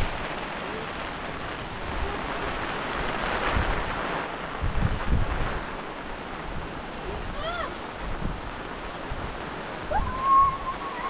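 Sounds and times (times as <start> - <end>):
wind gusts buffeting microphone: 0.0 - 11.0.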